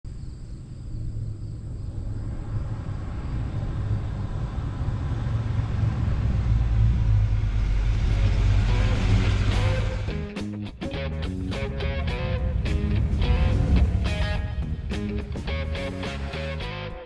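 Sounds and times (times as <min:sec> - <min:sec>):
pickup truck engine rumble: 0:01.7 - 0:17.0.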